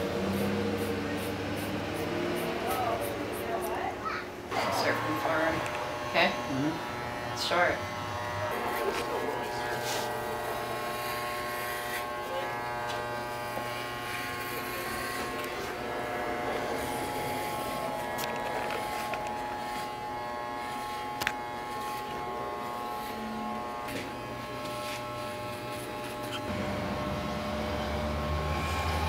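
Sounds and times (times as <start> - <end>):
electric hair clippers buzzing: 0.0 - 3.9, 4.5 - 29.0.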